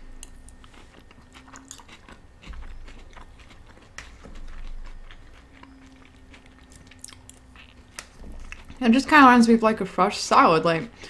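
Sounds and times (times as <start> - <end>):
close-up chewing: 0.0 - 9.2.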